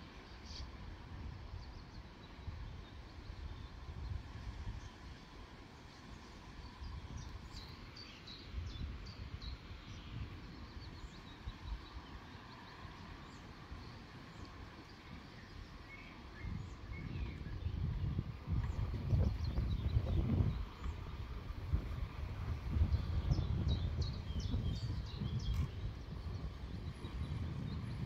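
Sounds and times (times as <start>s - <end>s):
small birds chirping: 1.6s - 21.5s, 22.7s - 28.0s.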